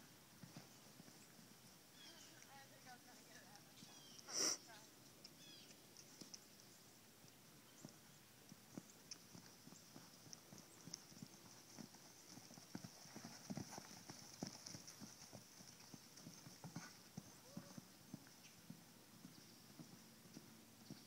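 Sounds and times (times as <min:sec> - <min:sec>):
horse hoofbeats: 0:00.4 - 0:04.1, 0:07.7 - 0:21.0.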